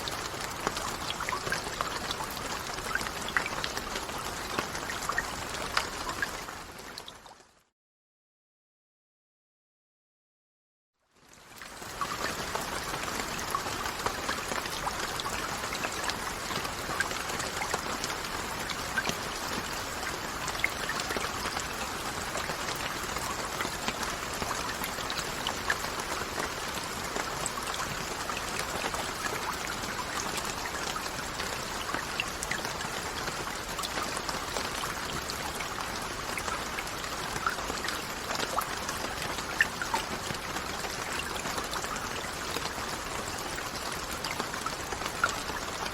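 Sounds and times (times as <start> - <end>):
rain falling: 0.0 - 7.4, 11.2 - 45.9.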